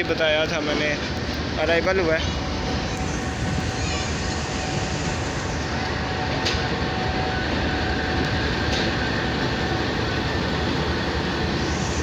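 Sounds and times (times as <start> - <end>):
locomotive engine rumbling: 0.0 - 12.0.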